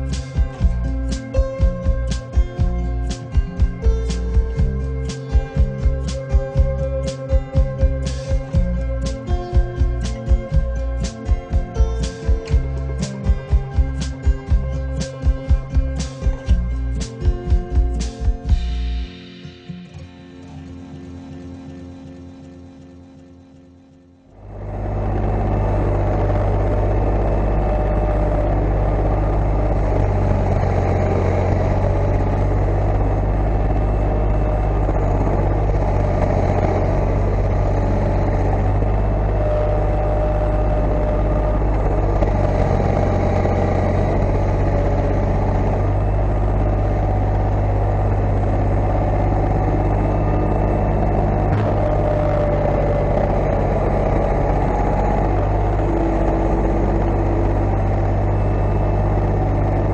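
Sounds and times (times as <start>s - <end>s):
tractor engine running: 0.0s - 23.4s, 24.3s - 59.9s.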